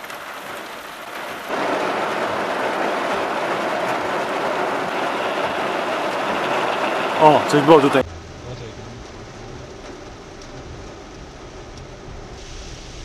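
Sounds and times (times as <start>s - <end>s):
heavy rain on a car: 0.0s - 13.0s.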